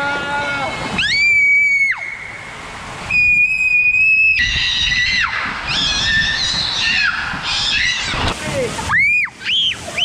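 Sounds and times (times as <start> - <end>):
water rushing under a tube: 0.6 - 10.0.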